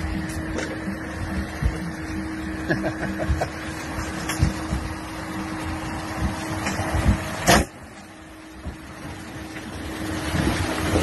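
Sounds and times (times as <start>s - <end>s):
car engine rumble: 0.0s - 11.0s
low hum: 0.0s - 11.0s.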